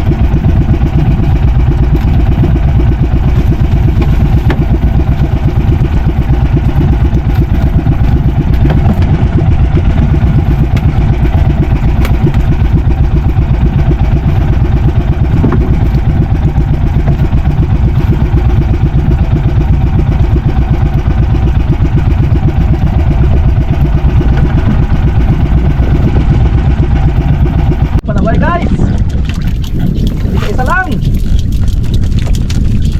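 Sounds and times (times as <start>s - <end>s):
boat engine chugging: 0.0s - 32.9s.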